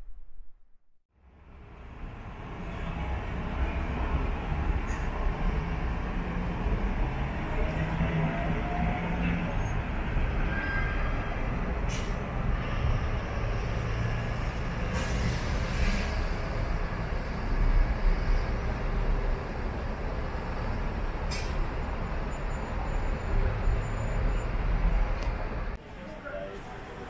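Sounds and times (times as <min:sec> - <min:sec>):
moving vehicle rumble: 0:01.2 - 0:27.0.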